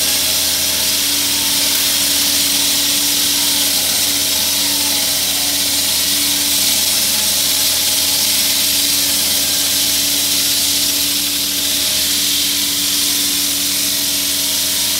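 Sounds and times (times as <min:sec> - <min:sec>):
motor humming: 0:00.0 - 0:14.9
saw blade cutting concrete: 0:00.0 - 0:14.9.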